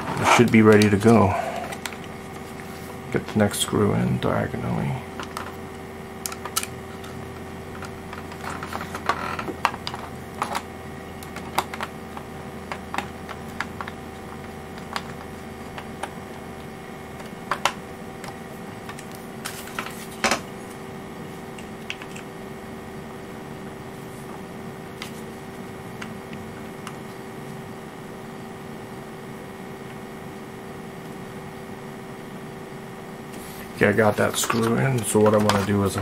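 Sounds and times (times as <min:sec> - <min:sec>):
steady electrical hum: 0:00.0 - 0:36.0.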